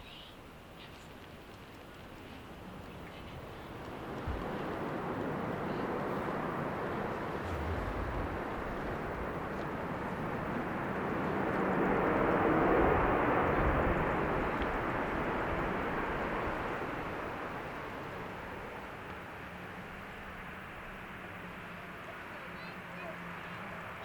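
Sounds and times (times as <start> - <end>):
airliner engine noise: 2.6 - 22.3.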